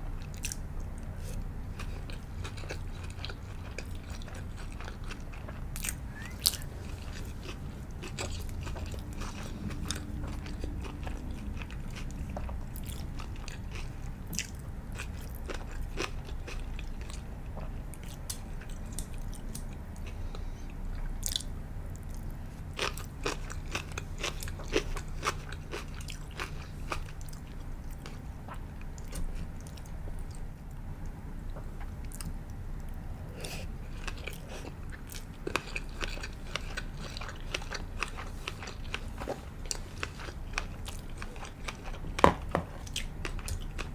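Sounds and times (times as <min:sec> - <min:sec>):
chewing with crisp crunches: 0:00.0 - 0:43.9.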